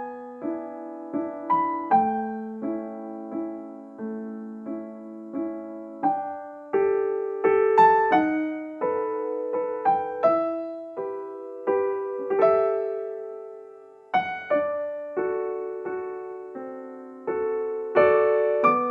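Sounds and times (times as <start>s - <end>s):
slow gentle piano: 0.0s - 18.9s.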